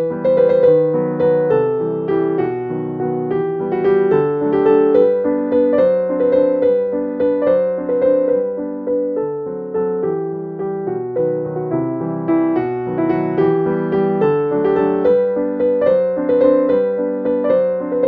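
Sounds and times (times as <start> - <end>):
keyboard melody: 0.0 - 18.0.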